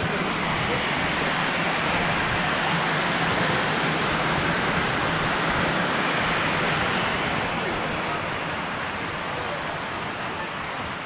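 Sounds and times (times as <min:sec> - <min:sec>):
water rushing over weir: 0:00.0 - 0:11.0.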